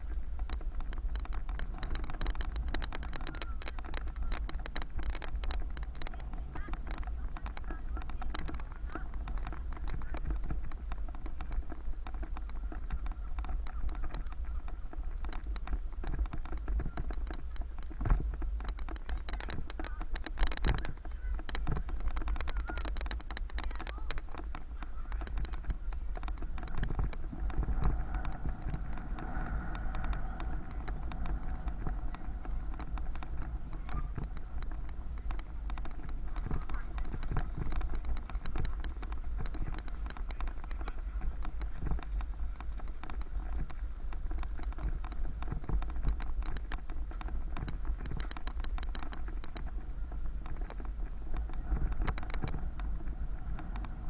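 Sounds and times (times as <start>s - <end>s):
bicycle ticking and rattling: 0.0s - 54.0s
wind rumble on microphone: 0.0s - 54.0s.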